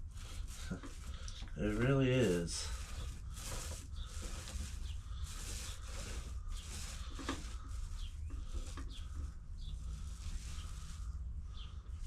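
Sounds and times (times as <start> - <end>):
foam roller swishing: 0.0 - 11.2
steady low rumble: 0.0 - 12.0.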